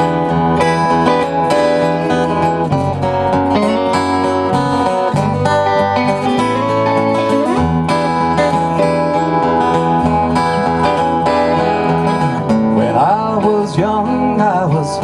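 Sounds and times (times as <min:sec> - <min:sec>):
acoustic guitar and plucked strings: 0:00.0 - 0:15.0.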